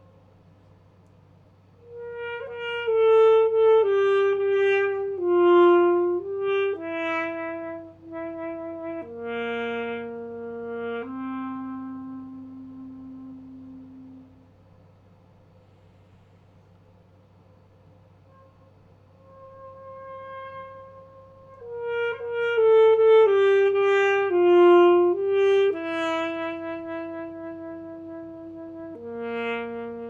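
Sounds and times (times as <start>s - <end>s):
solo alto saxophone: 0.0s - 0.7s, 1.8s - 14.9s, 18.1s - 30.0s.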